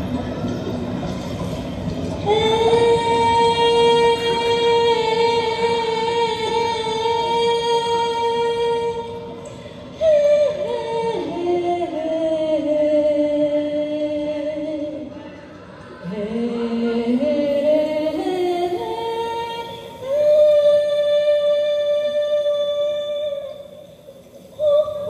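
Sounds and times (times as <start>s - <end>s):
woman singing through microphone: 2.2s - 25.0s.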